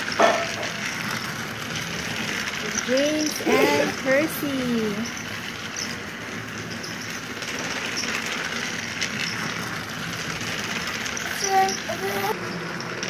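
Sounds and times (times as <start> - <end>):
toy train motors whirring: 0.0 - 13.0
wheels rattling over plastic track: 0.0 - 13.0.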